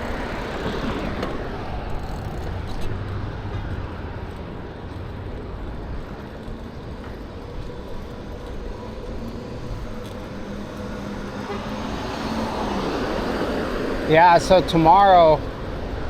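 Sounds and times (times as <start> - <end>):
bicycle road rumble: 0.0 - 16.0
motor traffic: 0.0 - 16.0.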